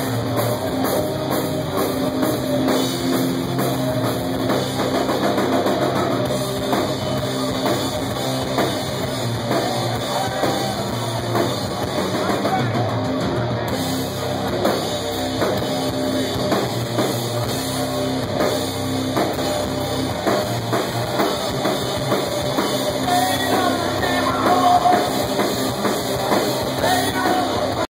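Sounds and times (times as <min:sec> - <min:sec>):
heavy metal band playing live: 0:00.0 - 0:27.9.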